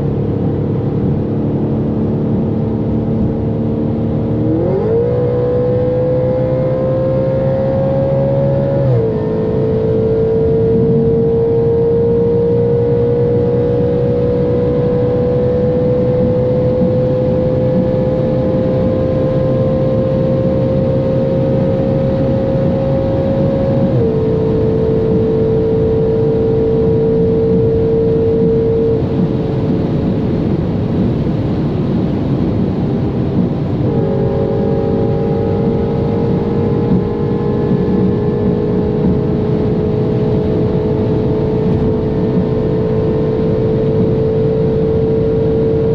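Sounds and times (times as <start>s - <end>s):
car engine under load: 0.0s - 45.9s
road and wind noise: 0.0s - 45.9s.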